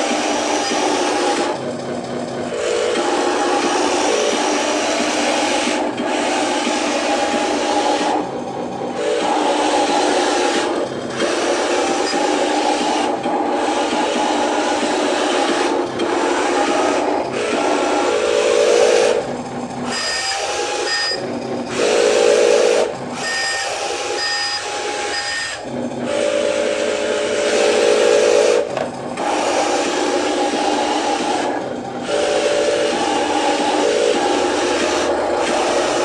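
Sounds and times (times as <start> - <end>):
electric motors whining and grinding: 0.0 - 36.0.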